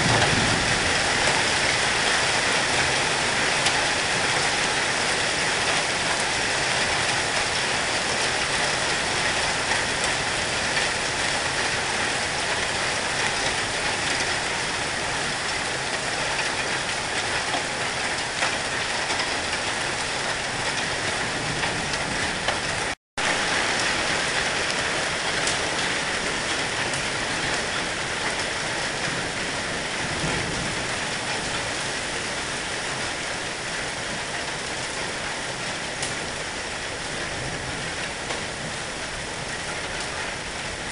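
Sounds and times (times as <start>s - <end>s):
hail and rain pelting on gravel: 0.0s - 40.9s.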